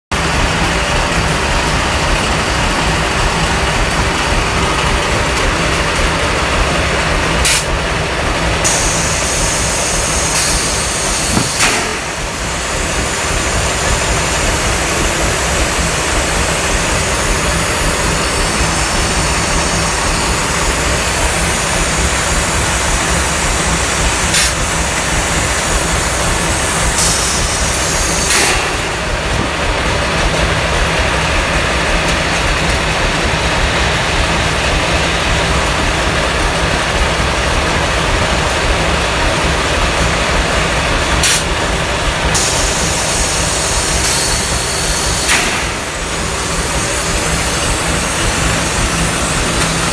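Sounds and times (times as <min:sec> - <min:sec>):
carton machinery running: 0:00.1 - 0:49.9.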